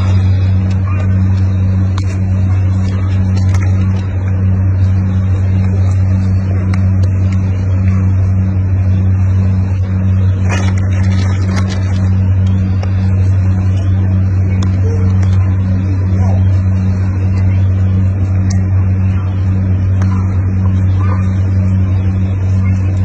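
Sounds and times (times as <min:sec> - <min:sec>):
loud low pulsing hum: 0:00.0 - 0:23.0.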